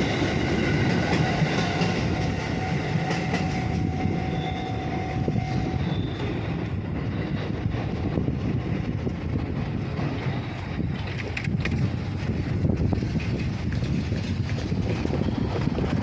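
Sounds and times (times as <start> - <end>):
electric train rumbling by: 0.0 - 16.0
train whine: 0.0 - 16.0.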